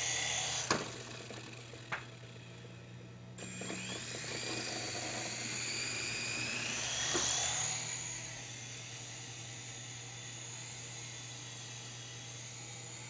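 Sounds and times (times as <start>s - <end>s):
toy helicopter motors whining: 0.0s - 2.4s, 3.4s - 13.0s.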